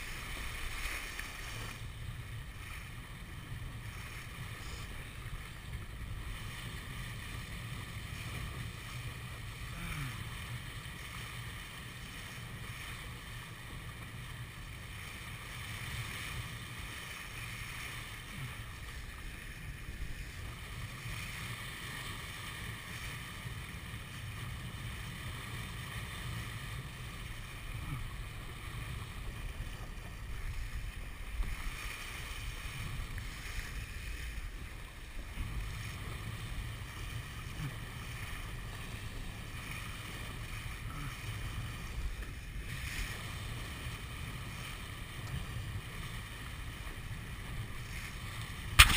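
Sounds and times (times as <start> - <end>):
water splashing along hull: 0.0 - 48.9.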